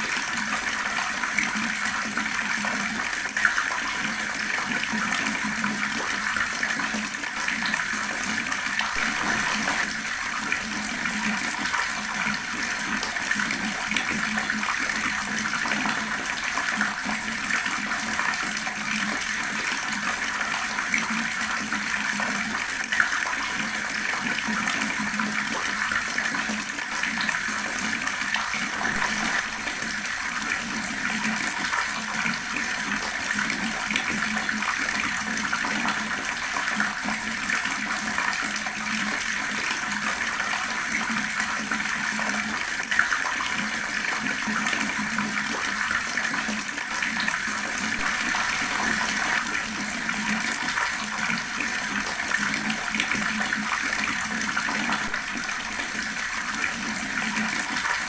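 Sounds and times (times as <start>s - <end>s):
water gurgling from a tap: 0.0s - 58.0s.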